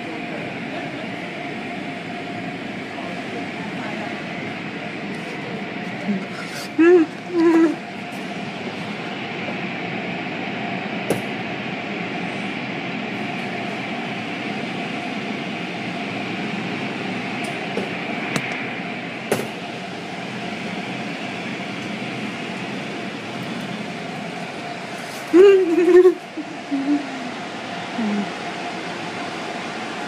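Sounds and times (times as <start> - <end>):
machinery hum: 0.0 - 30.0.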